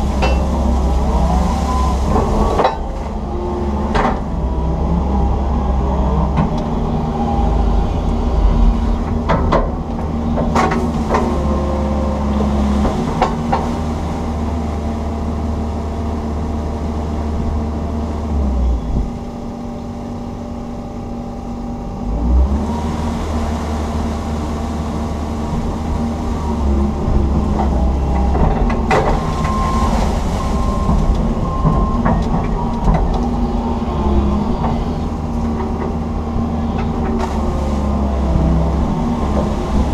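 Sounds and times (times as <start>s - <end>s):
excavator engine rumbling: 0.0s - 39.9s.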